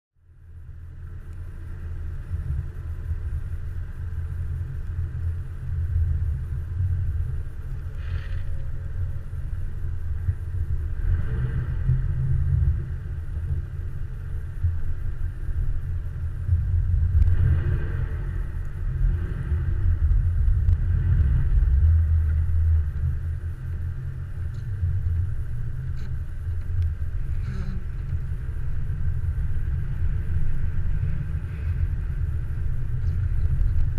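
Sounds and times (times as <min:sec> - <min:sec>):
vehicle engine and tyres rumbling: 0:00.2 - 0:33.9.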